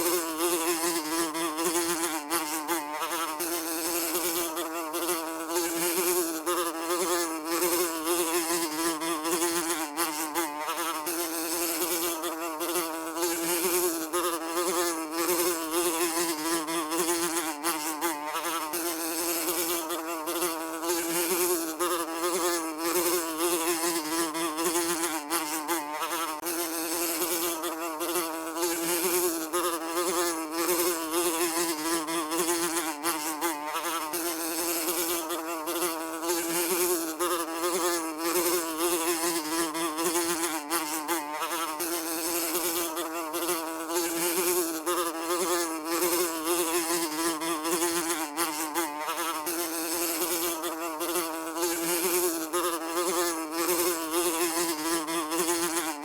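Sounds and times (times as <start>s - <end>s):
housefly buzzing: 0.0s - 56.0s.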